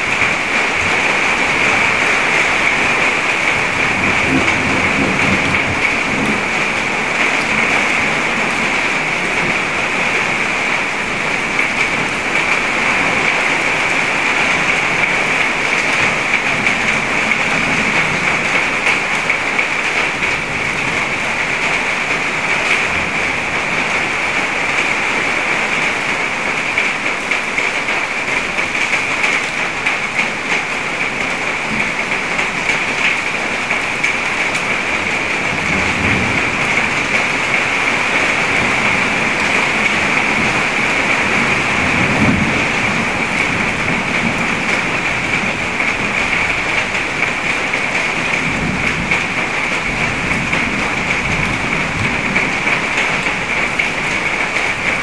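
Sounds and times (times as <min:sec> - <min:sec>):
rain falling on water: 0:00.0 - 0:55.0.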